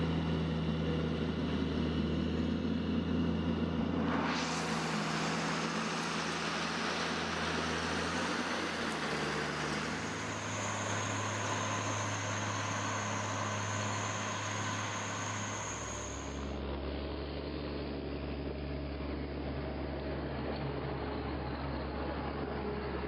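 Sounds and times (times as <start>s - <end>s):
machine engine-like hum: 0.0s - 23.0s.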